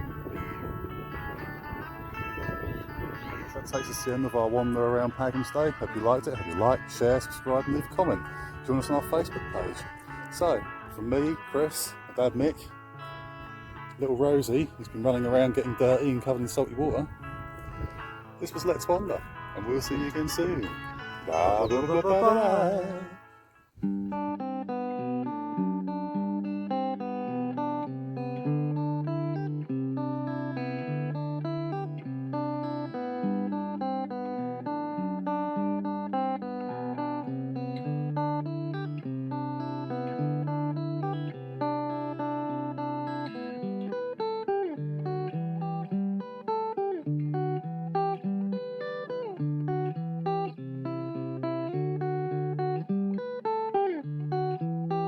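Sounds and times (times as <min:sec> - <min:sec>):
guitar playing chords: 0:00.0 - 0:55.0.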